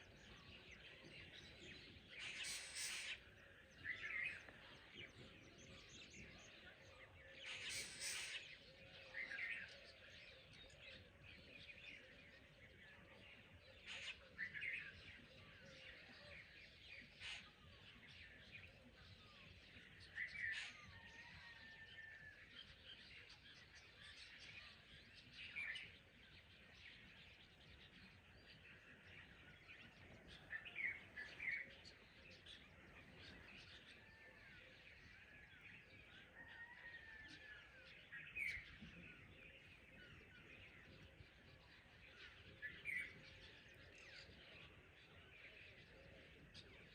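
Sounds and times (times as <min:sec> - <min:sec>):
birds chirping: 0:00.0 - 0:22.1, 0:22.7 - 0:46.9.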